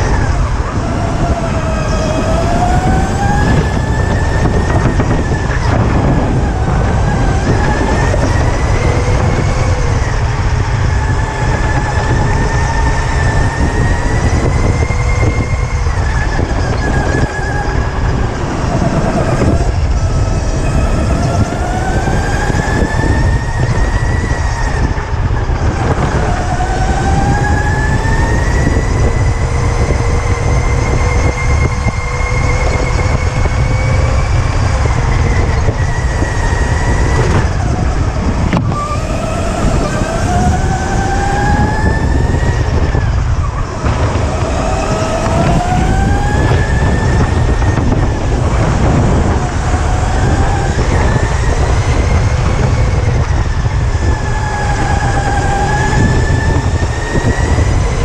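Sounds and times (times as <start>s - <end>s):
electric go-kart motor whining: 0.0s - 58.0s
low rumble of kart on track: 0.0s - 58.0s.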